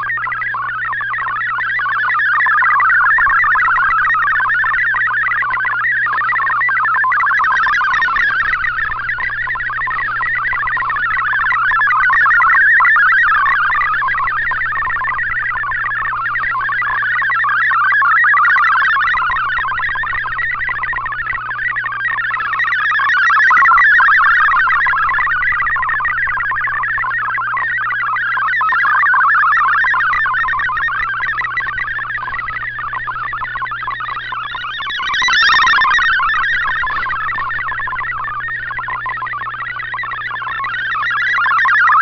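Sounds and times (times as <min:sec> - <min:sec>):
steady low hum: 0:00.0 - 0:42.0
warbling digital data tones: 0:00.0 - 0:42.0.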